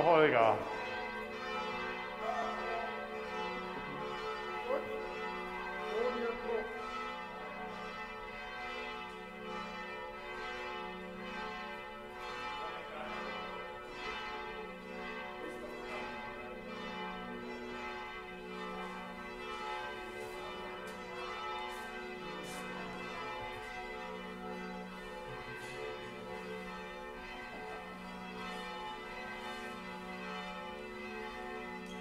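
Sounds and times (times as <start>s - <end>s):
church bells pealing: 0.0s - 32.0s.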